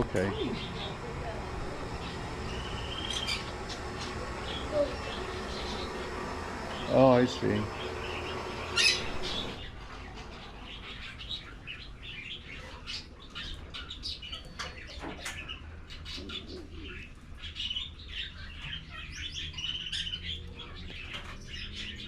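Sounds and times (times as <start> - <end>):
canaries chirping and trilling: 0.0 - 22.0.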